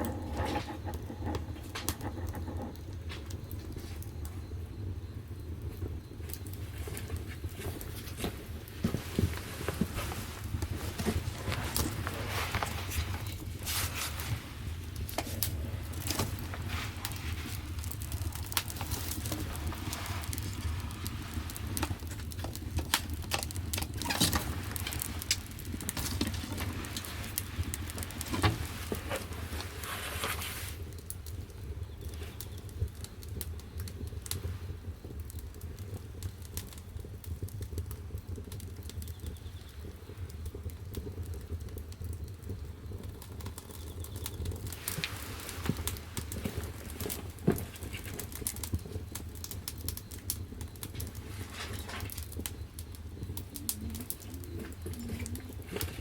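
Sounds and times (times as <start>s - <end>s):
firewood crackling and popping: 0.0s - 56.0s
low roar of fire: 0.0s - 56.0s.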